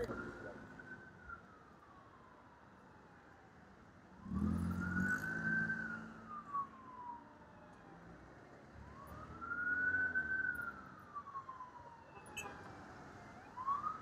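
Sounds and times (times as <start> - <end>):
emergency vehicle siren wailing: 0.0 - 14.0.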